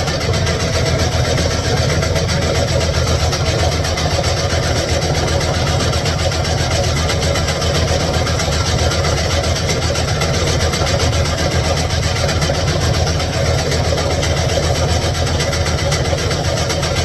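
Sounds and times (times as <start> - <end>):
machine rumbling and rattling: 0.0 - 17.0.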